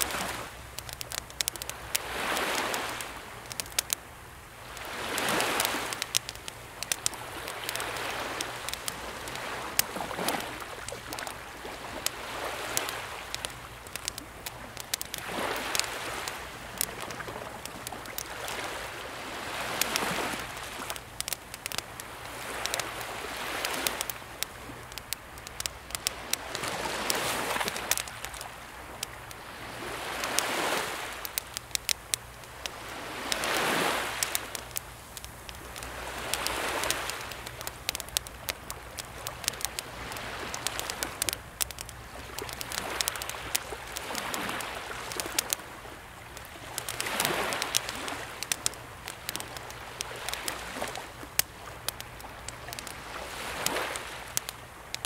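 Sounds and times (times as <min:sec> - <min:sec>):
campfire crackling and popping: 0:00.0 - 0:55.0
sea waves washing in: 0:00.0 - 0:55.0.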